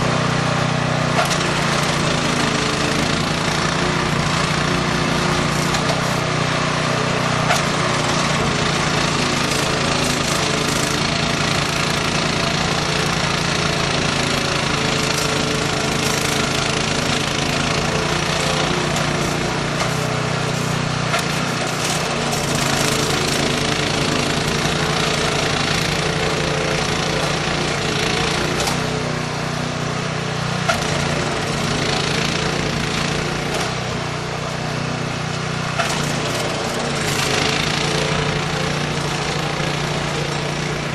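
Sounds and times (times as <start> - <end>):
snow-clearing machine engine running: 0.0 - 40.9.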